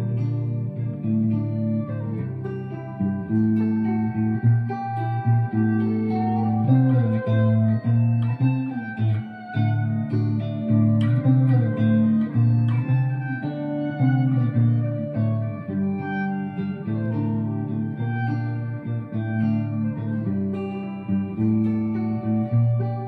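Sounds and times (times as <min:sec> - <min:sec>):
clean electric guitar: 0:00.0 - 0:23.0.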